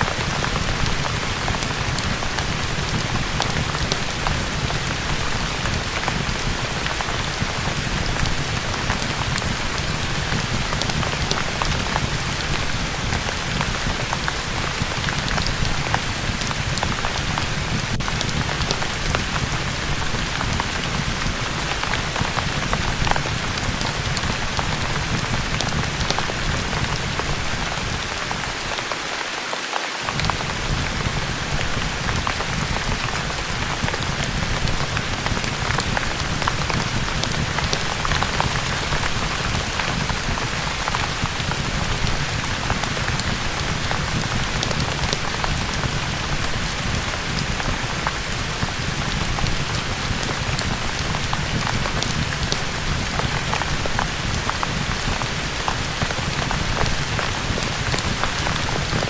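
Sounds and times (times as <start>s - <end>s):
rain drops ticking: 0.0s - 59.0s
steady rain falling: 0.0s - 59.0s.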